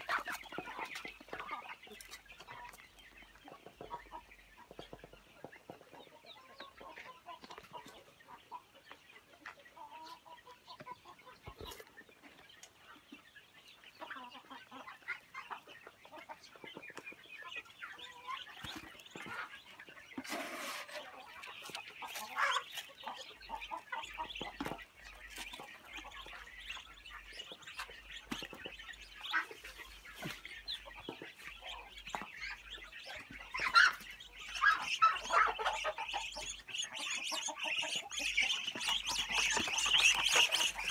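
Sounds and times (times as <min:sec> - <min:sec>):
chickens clucking: 0:00.0 - 0:40.9
ducklings peeping: 0:00.0 - 0:40.9.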